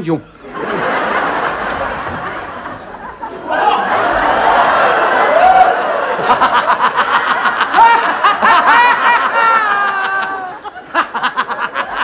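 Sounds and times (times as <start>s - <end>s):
men laughing heartily: 0.4s - 12.0s.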